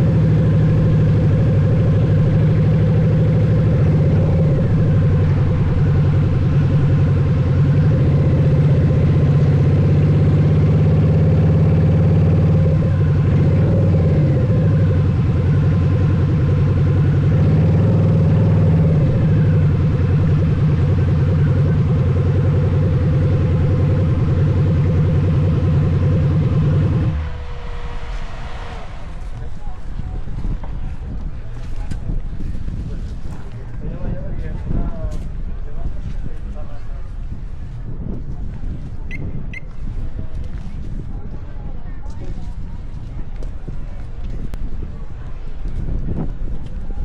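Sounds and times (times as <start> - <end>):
motorcycle engine idling: 0.0 - 47.0.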